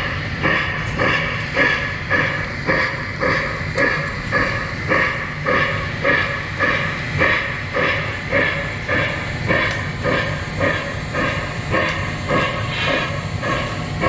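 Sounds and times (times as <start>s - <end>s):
model train steam chuffs: 0.0s - 14.0s.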